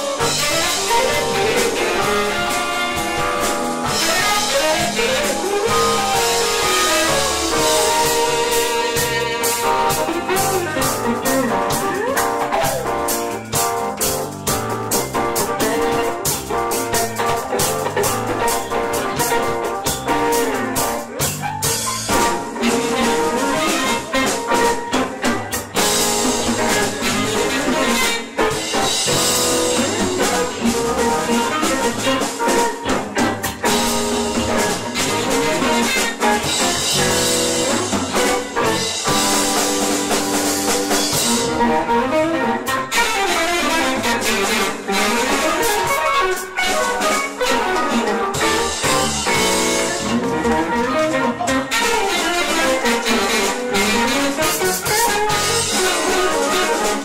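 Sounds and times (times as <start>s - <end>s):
drum kit: 0.0s - 57.0s
electric guitars: 0.0s - 57.0s
keyboard: 0.0s - 57.0s
saxophone: 0.0s - 57.0s.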